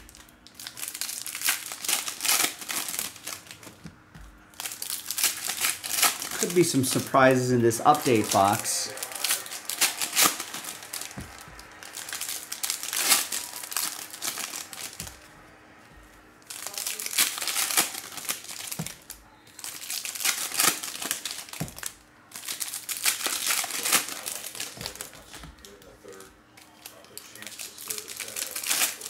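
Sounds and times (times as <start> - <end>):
foil wrappers crinkling and tearing: 0.0 - 3.9, 4.5 - 15.3, 16.4 - 29.0.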